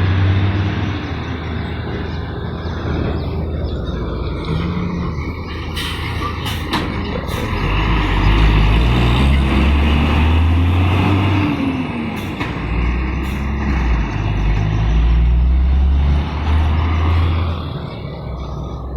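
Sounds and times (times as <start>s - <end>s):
heavy truck engine labouring: 0.0s - 18.9s.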